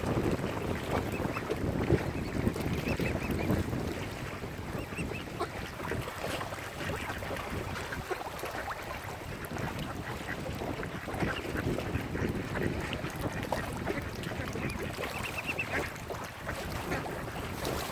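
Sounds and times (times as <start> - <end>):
ducks and waterbirds calling: 0.0 - 17.9
wind rumble on microphone: 0.0 - 17.9.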